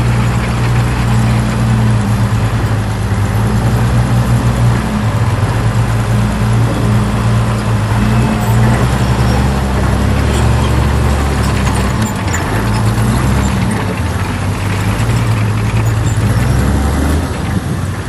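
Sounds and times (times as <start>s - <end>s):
faint clatter: 0.0s - 18.0s
heavy diesel engine running: 0.0s - 18.0s.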